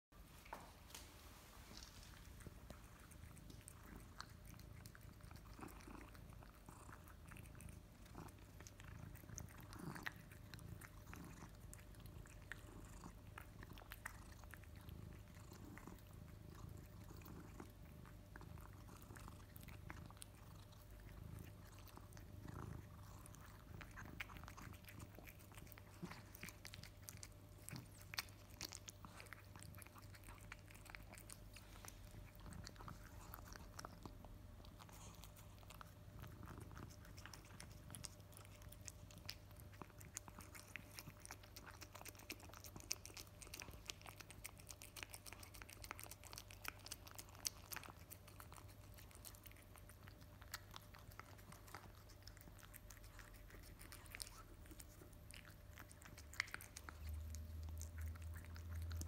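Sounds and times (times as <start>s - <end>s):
cat chewing wet food: 0.3s - 59.0s.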